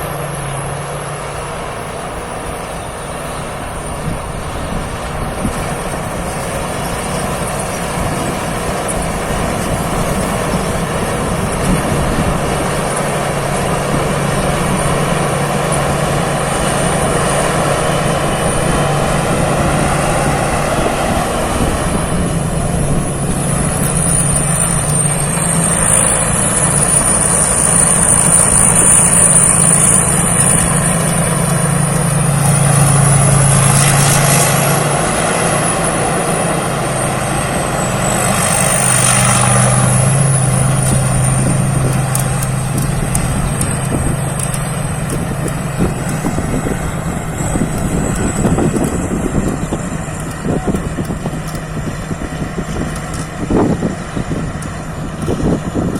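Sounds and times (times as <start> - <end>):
combine harvester engine hum: 0.0 - 55.9
high whine: 0.0 - 55.9.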